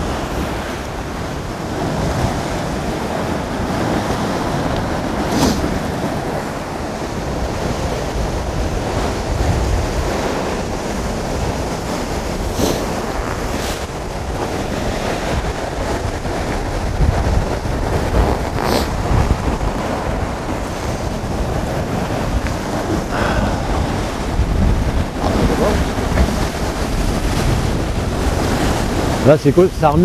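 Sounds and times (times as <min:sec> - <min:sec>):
surf breaking against rocks: 0:00.0 - 0:30.0
wind buffeting microphone: 0:00.0 - 0:30.0.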